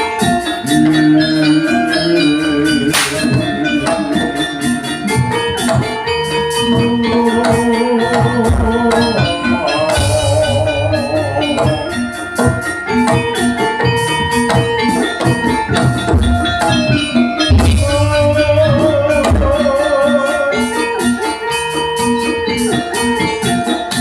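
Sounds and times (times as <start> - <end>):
loud gamelan music: 0.0 - 24.0.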